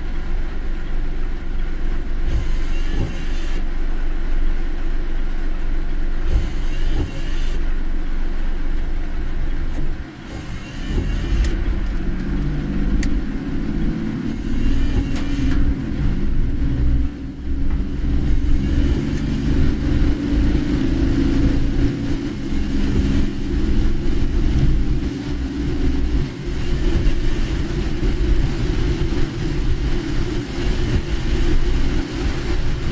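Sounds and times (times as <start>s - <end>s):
engine and tyres rumbling: 0.0s - 32.9s
water hissing under tyres: 0.0s - 32.9s.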